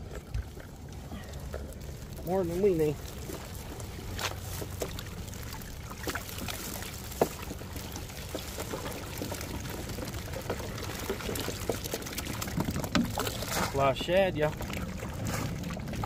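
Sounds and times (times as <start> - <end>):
water pouring and dripping: 0.0 - 16.0.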